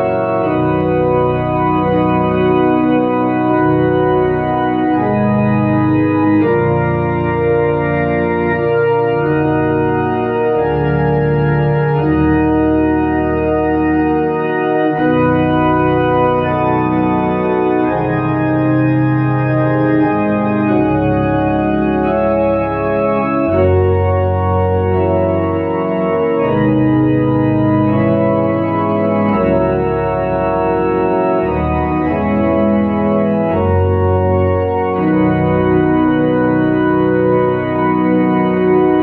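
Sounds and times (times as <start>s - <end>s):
electronic organ playing a hymn: 0.0s - 39.0s.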